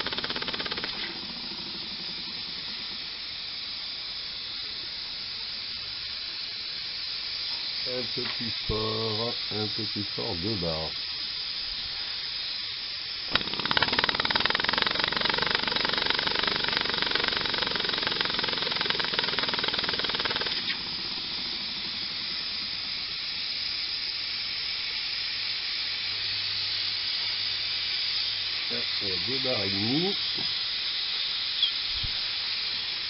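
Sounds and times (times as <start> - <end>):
model steam engine exhaust beats: 0.0 - 33.0
steady hiss of escaping steam: 0.0 - 33.0.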